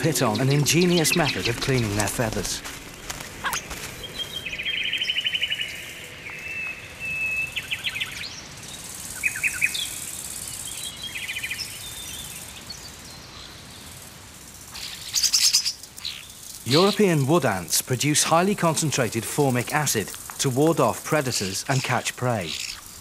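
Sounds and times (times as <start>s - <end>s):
birds trilling: 0.0s - 14.0s, 14.7s - 23.0s
high hiss: 0.0s - 23.0s.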